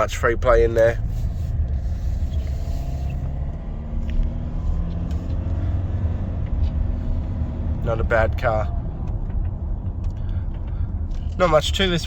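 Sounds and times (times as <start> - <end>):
diesel engine running: 0.0 - 12.0
low road rumble: 0.0 - 12.0.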